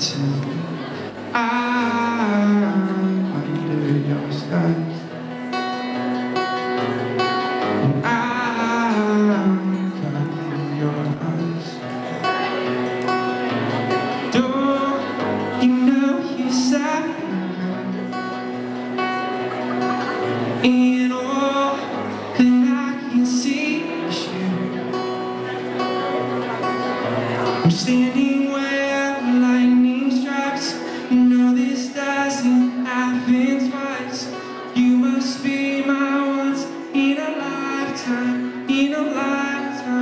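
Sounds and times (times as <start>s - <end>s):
man singing: 0.0s - 12.5s, 13.8s - 18.7s, 19.9s - 25.2s, 27.5s - 40.0s
strummed acoustic guitar: 0.0s - 40.0s.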